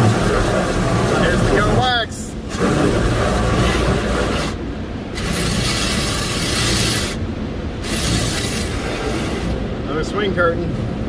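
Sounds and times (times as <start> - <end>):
car wash water hissing: 0.0 - 11.0.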